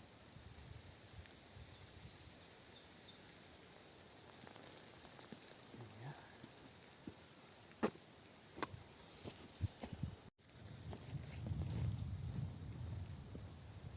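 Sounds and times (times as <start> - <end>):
faint outdoor background hiss: 0.0 - 13.9.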